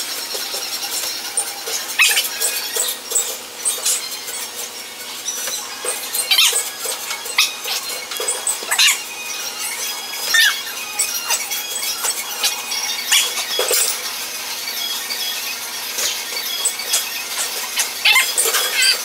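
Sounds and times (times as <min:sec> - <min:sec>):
high-pitched squeaks sliding down: 0:01.4 - 0:14.0, 0:14.8 - 0:19.0.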